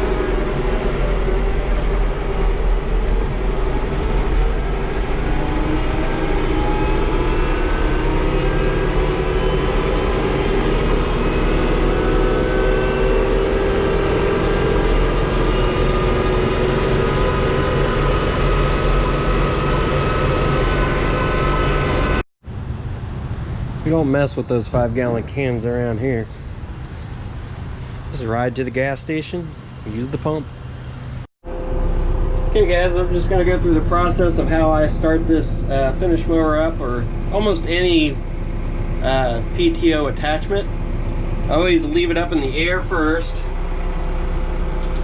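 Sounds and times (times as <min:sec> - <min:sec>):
tractor engine running: 0:00.0 - 0:23.8, 0:24.6 - 0:45.0.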